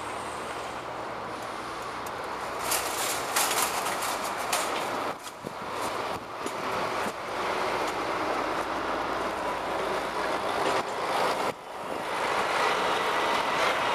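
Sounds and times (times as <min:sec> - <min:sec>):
bus and coach driving past: 0:00.0 - 0:13.9.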